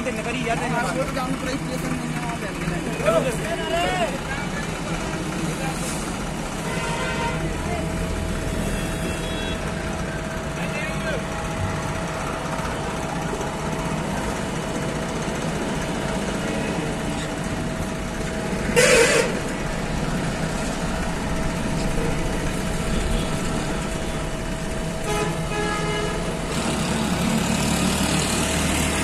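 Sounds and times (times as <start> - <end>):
diesel engine idling: 0.0 - 29.0
road traffic passing: 0.0 - 29.0.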